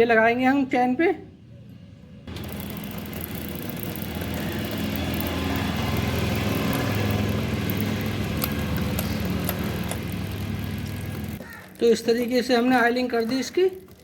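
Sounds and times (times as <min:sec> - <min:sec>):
drive chain clicking: 0:02.3 - 0:14.0
motorcycle engine running: 0:02.3 - 0:14.0.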